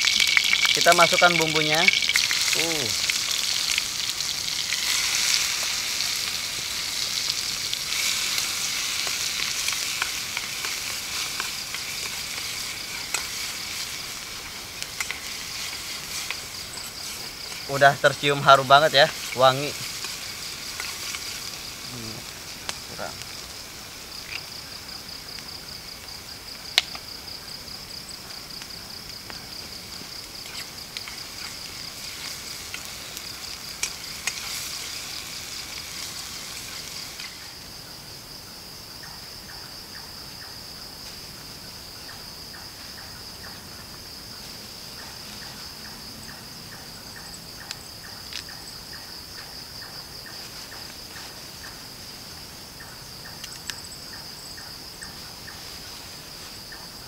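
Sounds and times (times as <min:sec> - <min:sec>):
crickets chirping: 0:00.0 - 0:57.0
slow ticking insect call: 0:00.0 - 0:57.0.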